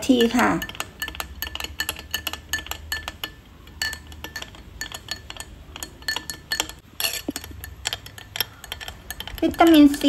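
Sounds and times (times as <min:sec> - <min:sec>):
spoon clinking in glass mug: 0:00.0 - 0:10.0.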